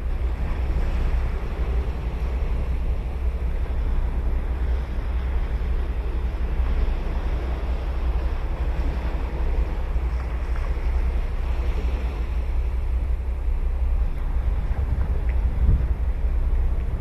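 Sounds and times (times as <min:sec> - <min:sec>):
ocean waves breaking: 0:00.0 - 0:17.0
wind rumbling on microphone: 0:00.0 - 0:17.0.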